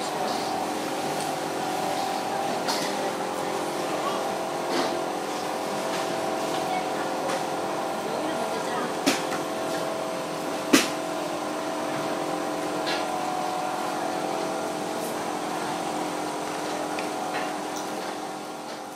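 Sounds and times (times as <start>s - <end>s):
steady mechanical hum: 0.0s - 18.9s.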